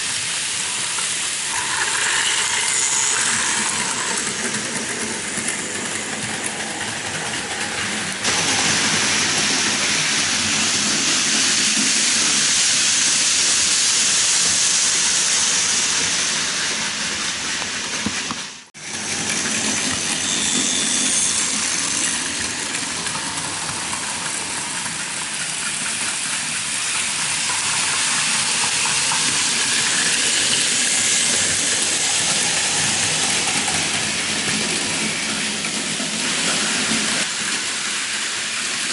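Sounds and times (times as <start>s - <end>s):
toy trains whirring on track: 0.0s - 38.9s.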